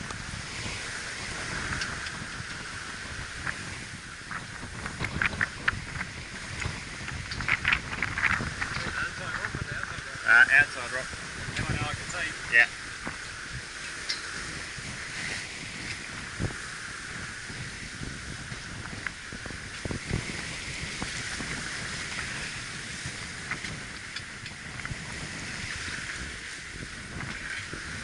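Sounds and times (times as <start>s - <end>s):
wind and water rushing: 0.0s - 28.0s
wind buffeting microphone: 0.0s - 28.0s.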